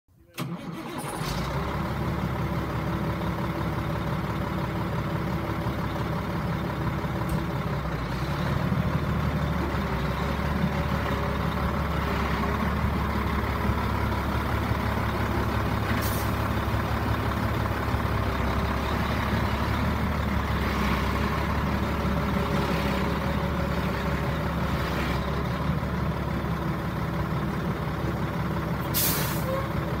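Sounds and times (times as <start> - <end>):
diesel truck engine idling: 0.4 - 30.0.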